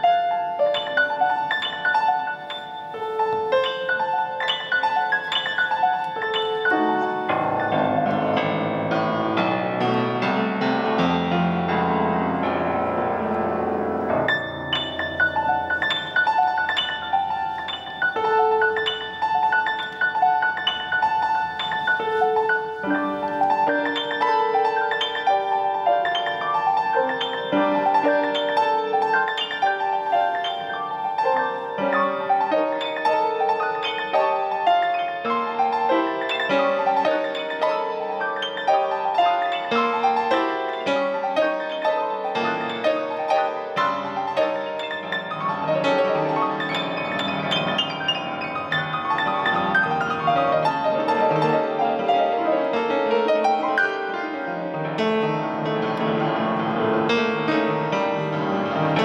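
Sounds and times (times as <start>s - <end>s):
piano playing: 0.0s - 59.0s.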